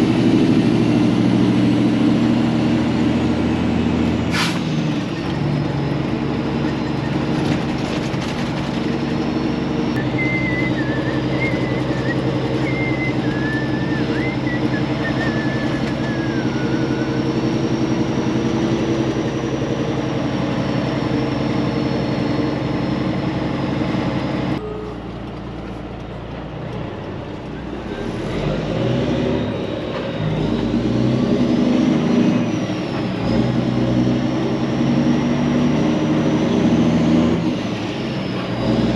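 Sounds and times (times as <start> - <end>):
truck diesel engine: 0.0 - 38.9.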